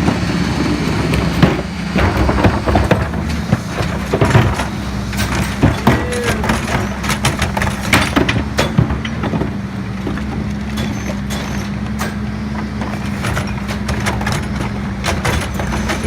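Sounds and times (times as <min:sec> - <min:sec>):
garbage truck engine running: 0:00.0 - 0:16.0
sharp knocks and clanks: 0:01.1 - 0:16.0.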